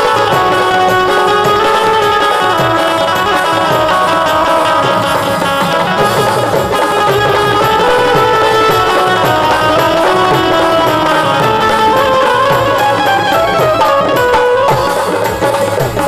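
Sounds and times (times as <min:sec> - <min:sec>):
sustained melody notes: 0:00.0 - 0:15.9
steady drum beat: 0:00.0 - 0:16.0.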